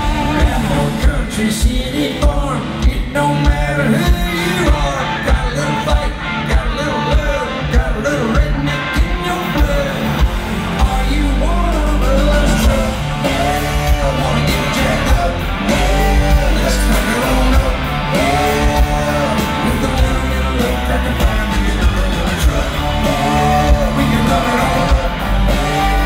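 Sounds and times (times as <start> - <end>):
bass: 0.0 - 26.0
drums: 0.0 - 26.0
electric guitar: 0.0 - 26.0
person singing: 0.0 - 26.0.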